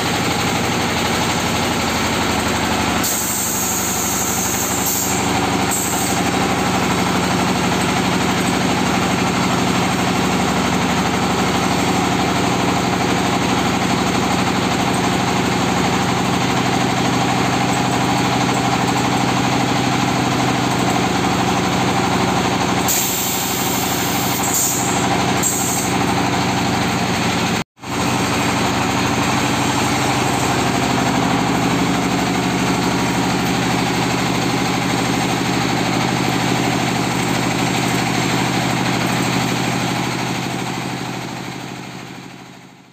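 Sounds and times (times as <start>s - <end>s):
brick press machine drone: 0.0s - 42.9s.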